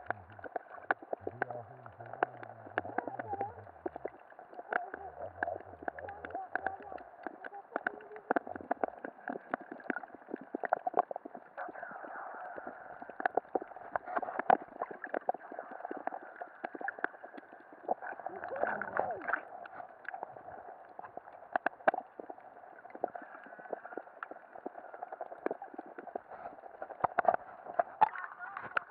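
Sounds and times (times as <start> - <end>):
underwater clicks and knocks: 0.0 - 11.4, 13.1 - 20.2, 20.9 - 22.2, 25.2 - 28.9
bubbles gurgling: 0.0 - 28.9
underwater water wash: 0.0 - 28.9.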